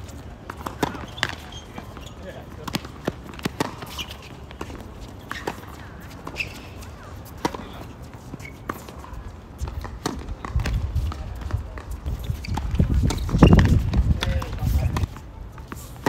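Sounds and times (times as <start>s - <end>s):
tennis balls bouncing on court: 0.0s - 16.0s
tennis balls struck by rackets: 0.4s - 16.0s.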